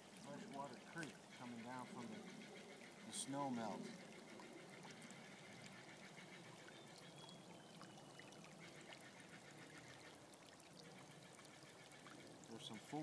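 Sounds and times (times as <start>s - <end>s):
creek trickling: 0.0s - 13.0s.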